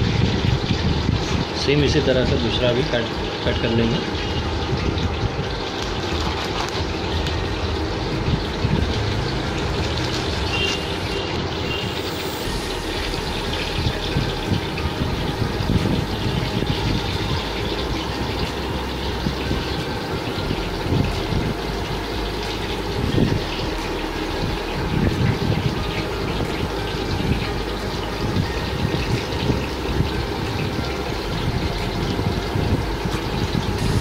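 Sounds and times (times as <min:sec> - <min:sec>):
low fan or motor noise: 0:00.0 - 0:34.0.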